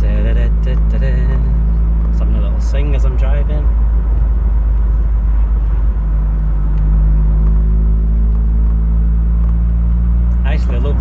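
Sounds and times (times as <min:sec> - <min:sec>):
car engine drone: 0:00.0 - 0:11.0
road rumble: 0:00.0 - 0:11.0.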